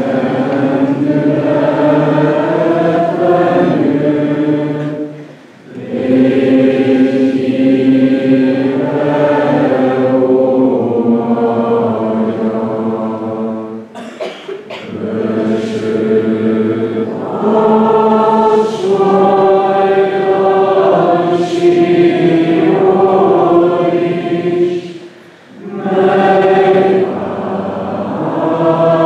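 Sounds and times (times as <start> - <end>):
choir singing held notes: 0.0 - 29.0.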